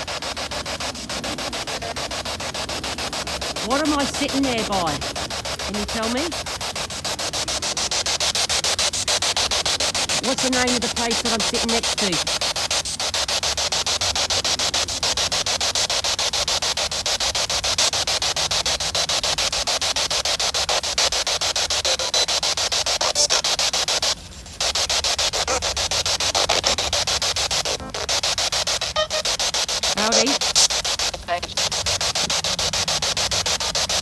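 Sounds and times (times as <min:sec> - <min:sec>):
chopped radio static: 0:00.0 - 0:34.0.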